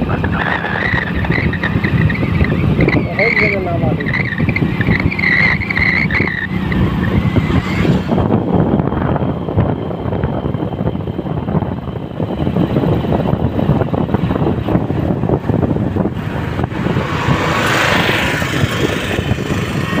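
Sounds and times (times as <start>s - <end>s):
vehicle road and wind rumble: 0.0s - 20.0s.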